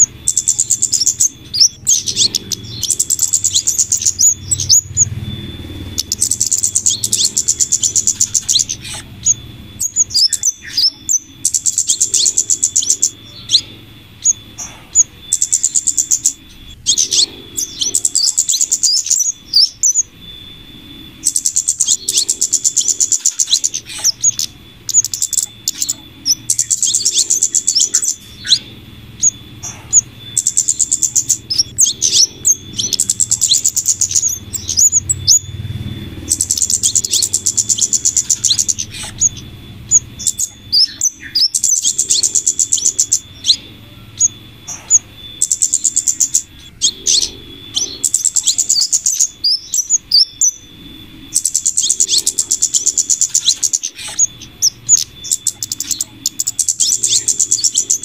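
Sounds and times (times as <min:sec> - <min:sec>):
faint high steady tone: 0:00.0 - 0:58.0
high fast bird trills: 0:00.0 - 0:58.0
sharp downward bird chips: 0:00.0 - 0:58.0.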